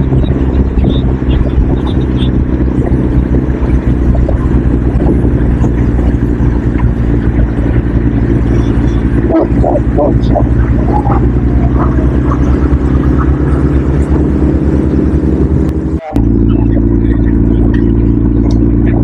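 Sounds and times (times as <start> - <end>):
road and wind noise: 0.0 - 19.0
vehicle engine running: 0.0 - 19.0.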